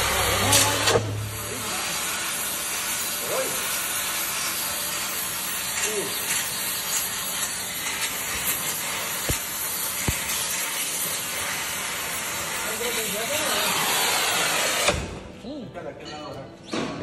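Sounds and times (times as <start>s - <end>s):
gas torch hissing: 0.0s - 15.2s.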